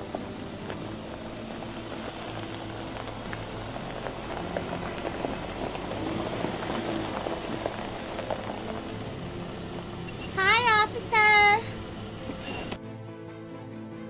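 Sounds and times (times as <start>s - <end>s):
low engine note: 0.0s - 12.8s
tyres crunching on gravel: 0.0s - 12.8s.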